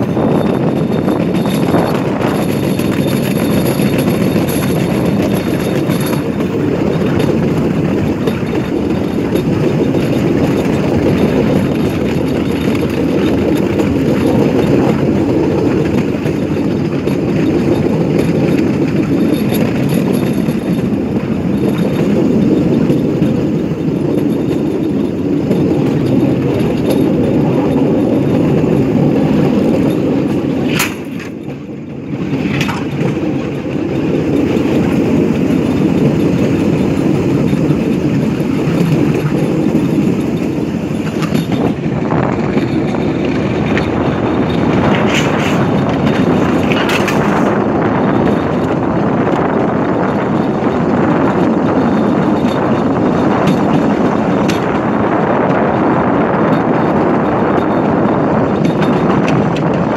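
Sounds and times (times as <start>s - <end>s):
rail cart rumbling on track: 0.0s - 59.9s.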